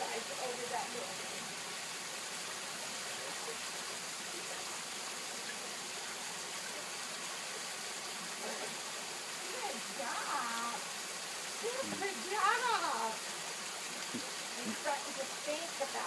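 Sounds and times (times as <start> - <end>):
waterfall rushing into pool: 0.0 - 16.0.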